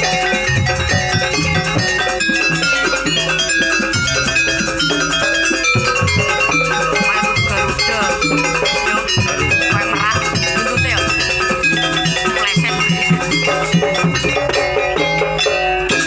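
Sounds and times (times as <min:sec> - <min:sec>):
metallophone melody: 0:00.0 - 0:16.0.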